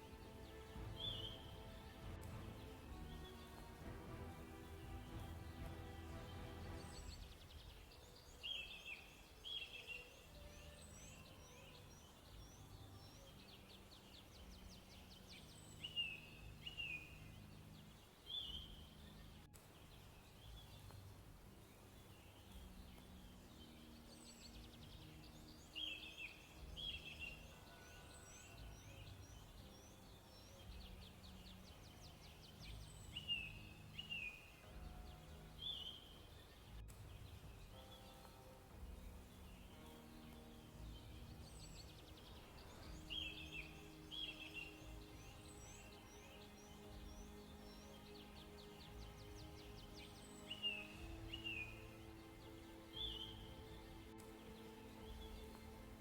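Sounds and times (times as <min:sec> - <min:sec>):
birdsong chirps: 0:00.0 - 0:56.0.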